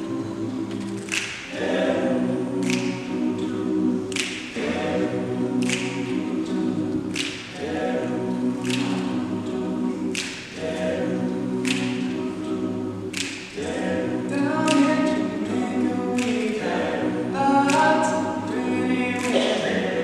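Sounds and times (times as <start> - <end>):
male group singing chords: 0.0 - 20.0.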